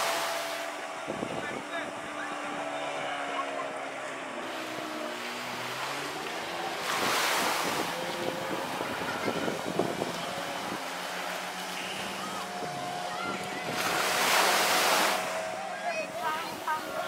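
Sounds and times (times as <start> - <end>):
motorboat engine running: 0.0 - 17.0
waves washing: 0.0 - 17.0
faint voices: 0.6 - 5.2, 7.6 - 17.0.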